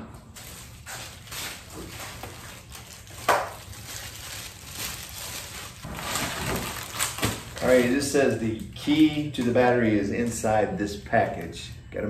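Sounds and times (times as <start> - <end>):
plastic packaging crinkling: 0.3 - 11.8.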